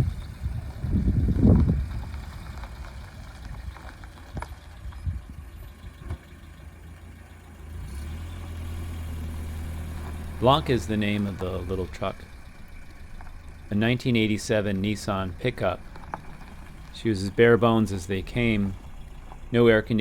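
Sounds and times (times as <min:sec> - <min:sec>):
pickup engine rumbling and idling: 0:00.0 - 0:20.0.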